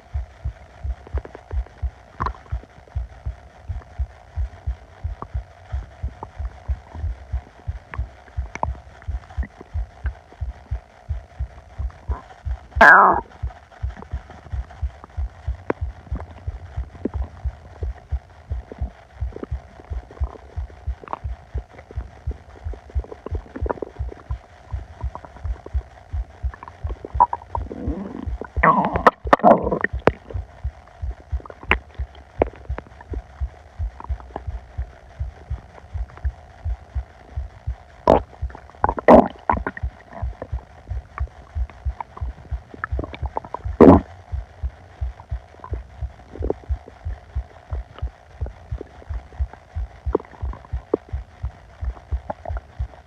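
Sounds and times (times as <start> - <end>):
fast low thuds: 0.0 - 53.0
stomach growling and gurgling: 0.0 - 53.0.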